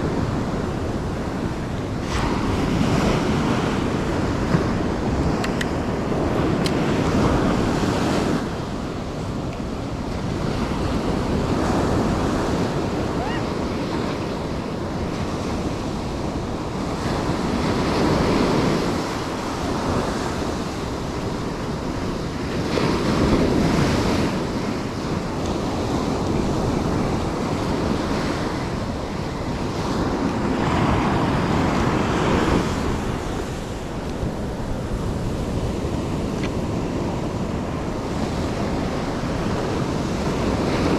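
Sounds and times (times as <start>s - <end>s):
ocean surf breaking: 0.0s - 40.9s
wind buffeting microphone: 0.0s - 40.9s.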